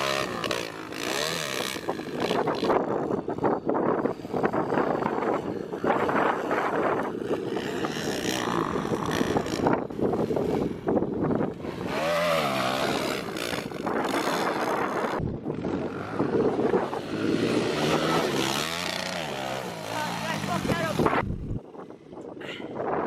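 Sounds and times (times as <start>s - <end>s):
dirt bike engines revving: 0.0s - 21.6s
wind rumbling on microphone: 0.0s - 23.0s.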